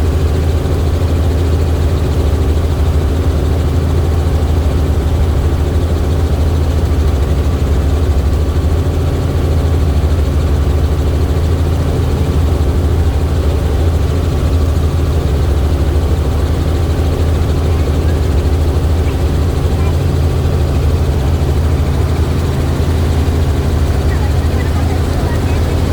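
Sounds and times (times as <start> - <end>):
helicopter engine and rotor: 0.0 - 25.9.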